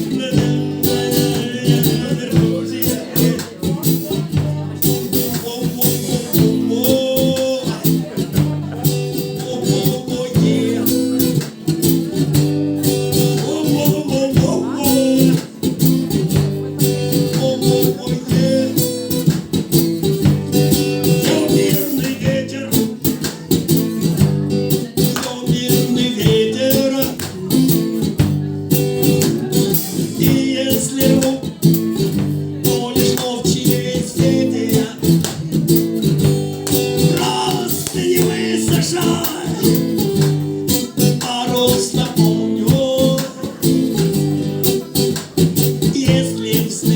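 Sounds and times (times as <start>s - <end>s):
guitar strummed rock song: 0.0s - 46.9s.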